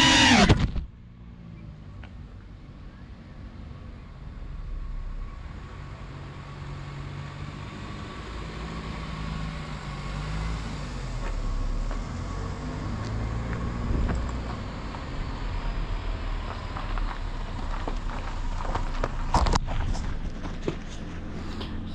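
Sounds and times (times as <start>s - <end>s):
cars driving past: 1.0s - 21.9s.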